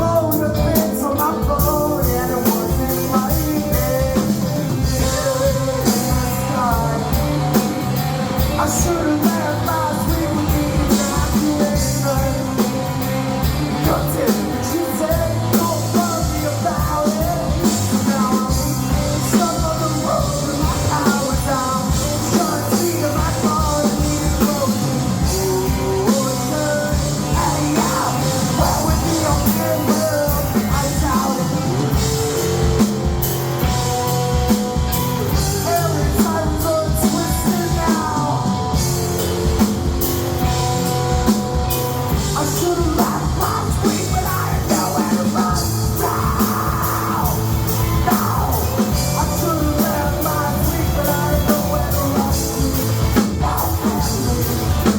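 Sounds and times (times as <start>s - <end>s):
drum kit beat: 0.0s - 54.9s
person singing: 0.0s - 54.9s
rock band playing: 0.0s - 54.9s.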